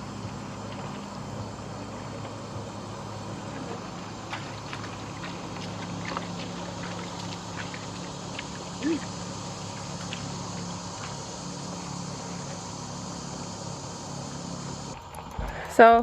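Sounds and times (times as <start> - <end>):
distant engine drone: 0.0 - 16.0.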